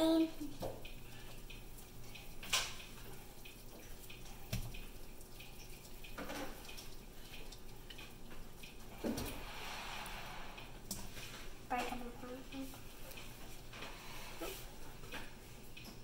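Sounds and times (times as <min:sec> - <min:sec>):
liquid bubbling: 0:00.0 - 0:16.0.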